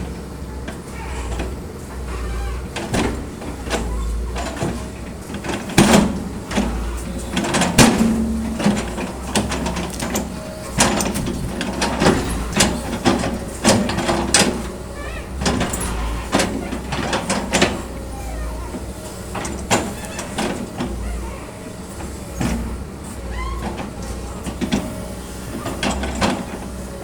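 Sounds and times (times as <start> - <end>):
excavator engine rumbling: 0.0 - 27.0.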